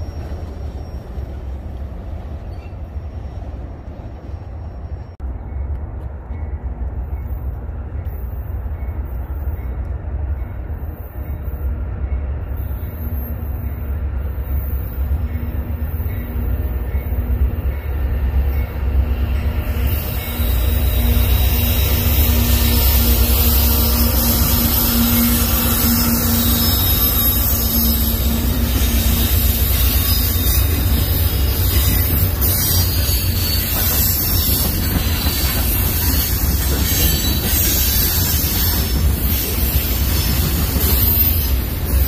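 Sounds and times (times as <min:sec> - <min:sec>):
freight train wheels rumbling on rail: 0:00.0 - 0:42.0.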